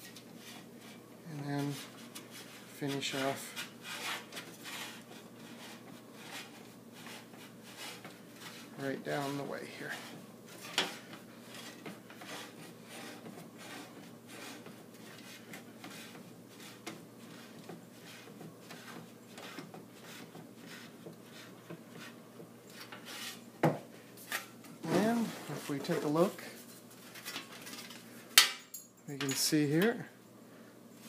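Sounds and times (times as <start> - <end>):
wooden tool scraping metal flange: 0.0 - 23.5, 24.3 - 26.3.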